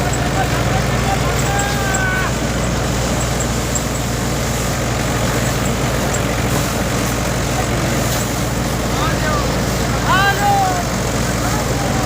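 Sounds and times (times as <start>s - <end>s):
thresher engine drone: 0.0s - 12.0s.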